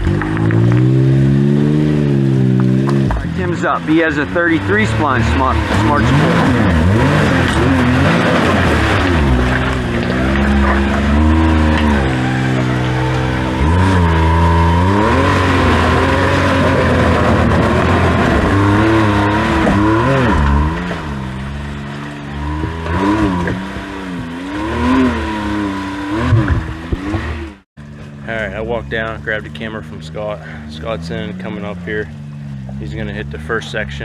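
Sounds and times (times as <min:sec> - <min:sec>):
utility vehicle engine revving: 0:00.0 - 0:34.0.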